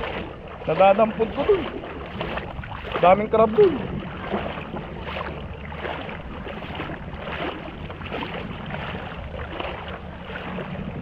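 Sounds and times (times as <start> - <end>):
sea water lapping: 0.0 - 11.0
wind rumbling on microphone: 0.0 - 11.0.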